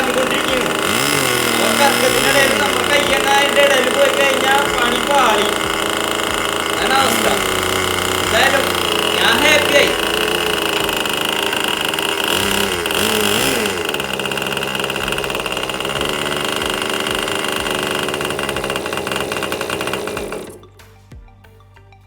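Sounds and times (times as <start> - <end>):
model aeroplane engine buzzing: 0.0 - 20.7.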